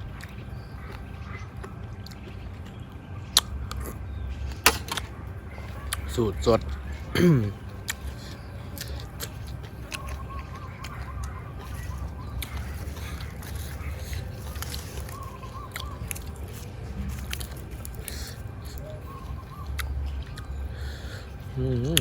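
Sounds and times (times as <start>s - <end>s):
person chewing food: 0.0s - 4.6s, 5.5s - 22.0s.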